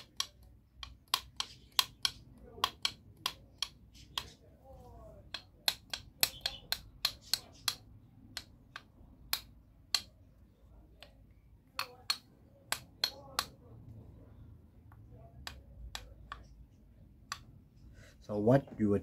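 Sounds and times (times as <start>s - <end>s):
sharp metal clicks: 0.0s - 4.5s, 5.1s - 17.9s.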